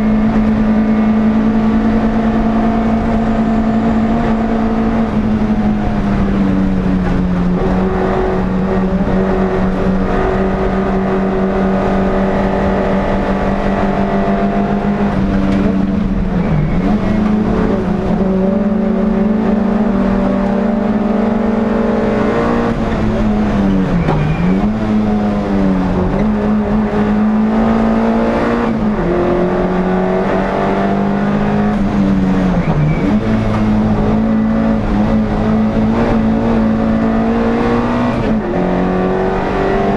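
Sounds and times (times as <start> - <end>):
racing car engine at high revs: 0.0 - 39.9.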